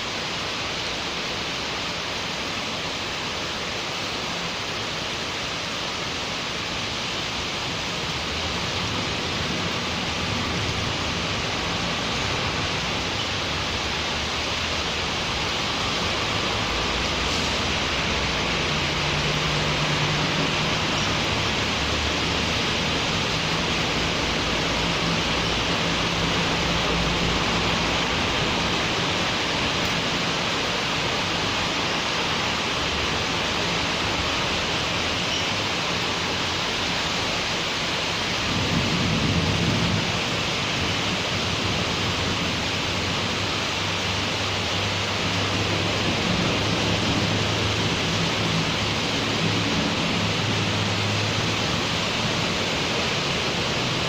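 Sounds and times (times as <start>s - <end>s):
passing traffic hum: 0.0s - 54.0s
rain falling: 0.0s - 54.0s.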